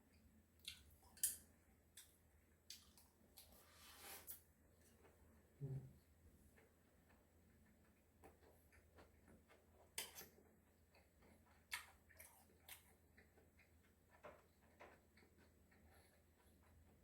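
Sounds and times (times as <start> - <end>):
faint steady hum: 0.0 - 17.0
person chewing food: 0.6 - 5.2, 6.5 - 17.0.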